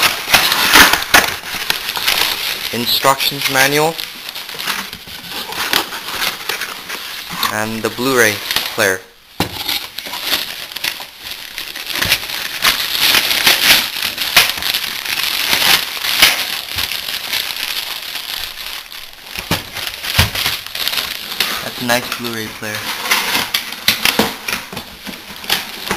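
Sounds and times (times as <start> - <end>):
plastic packaging crinkling: 0.0 - 25.9.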